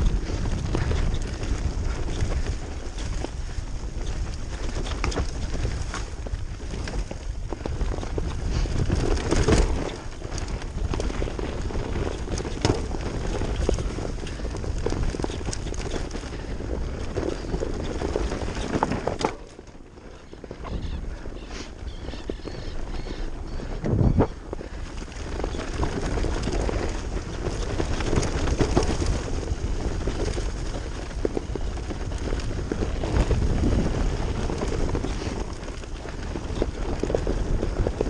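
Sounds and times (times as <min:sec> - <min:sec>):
bike rattling over rocks: 0:00.0 - 0:38.0
wind buffeting the microphone: 0:00.0 - 0:38.0.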